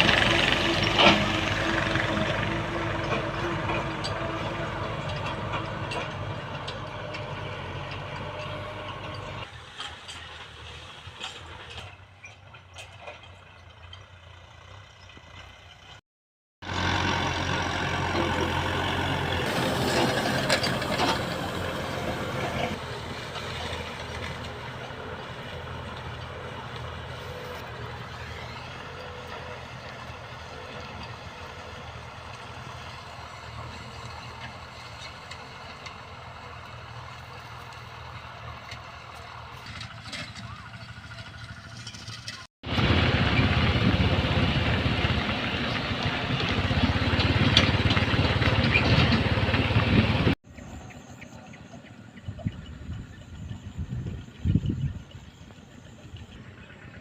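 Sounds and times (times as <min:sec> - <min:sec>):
small tractor engine running: 0:00.0 - 0:16.0, 0:16.6 - 0:57.0.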